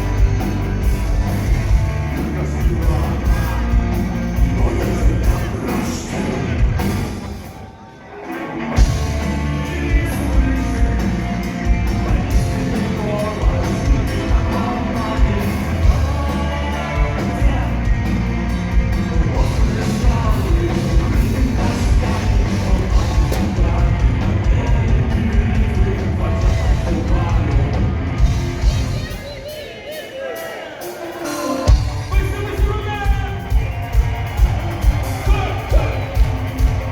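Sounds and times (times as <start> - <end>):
heavy rock band with drums: 0.0 - 36.9.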